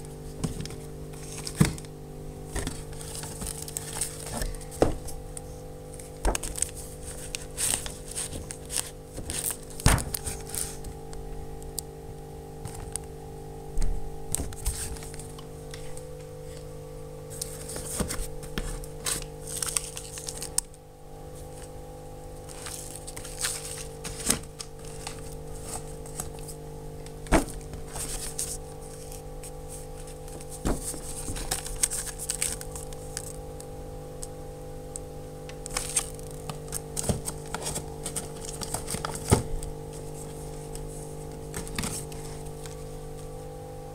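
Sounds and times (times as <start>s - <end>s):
steady hum: 0.0s - 43.9s
packaging crinkling and rustling: 0.1s - 11.2s, 14.3s - 16.7s, 17.3s - 20.7s, 22.4s - 34.4s, 35.4s - 43.4s.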